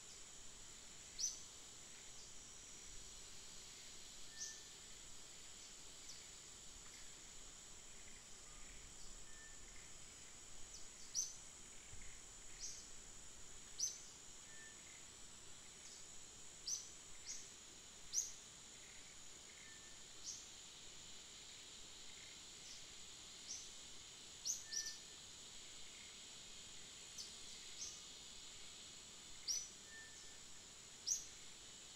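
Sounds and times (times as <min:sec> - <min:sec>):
high-pitched insect drone: 0:00.1 - 0:31.9.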